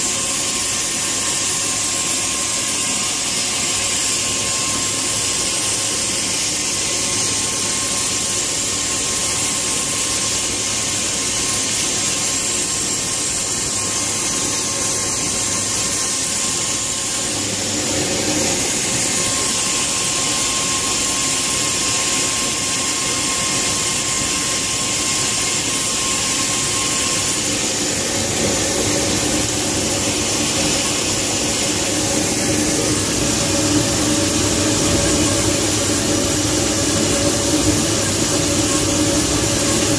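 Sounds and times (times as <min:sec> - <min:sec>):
turboprop engines whining: 0:00.0 - 0:39.9.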